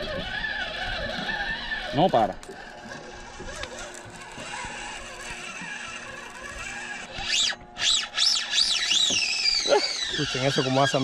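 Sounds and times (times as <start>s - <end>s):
fishing reel drag screaming: 0.0s - 11.0s.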